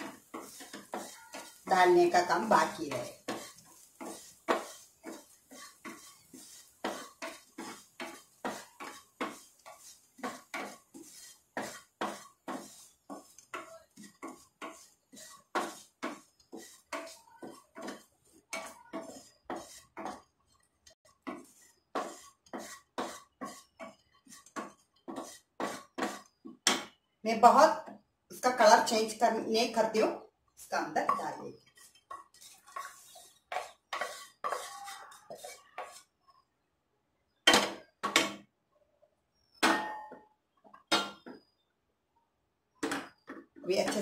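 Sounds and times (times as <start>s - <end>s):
wooden spatula scraping a pan: 0.0s - 26.6s, 27.4s - 36.5s, 42.8s - 44.0s.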